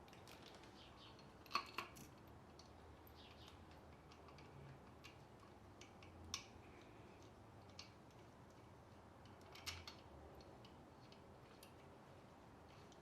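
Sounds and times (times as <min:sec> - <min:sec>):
faint clicks of small parts handled: 0:00.0 - 0:13.0.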